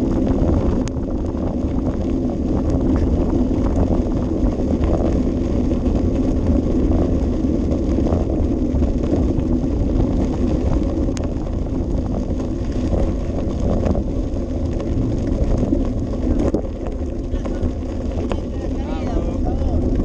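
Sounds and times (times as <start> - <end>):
bicycle rattles and clicks: 0.0 - 20.0
wind rushing over microphone: 0.0 - 20.0.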